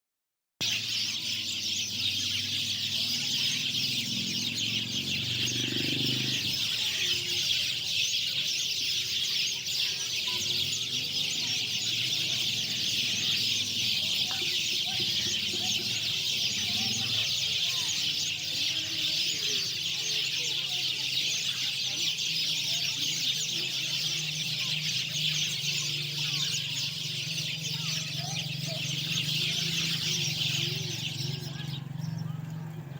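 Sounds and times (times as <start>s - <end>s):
lovebirds chattering: 0.6s - 32.9s
low wavering bird calls: 0.6s - 32.9s.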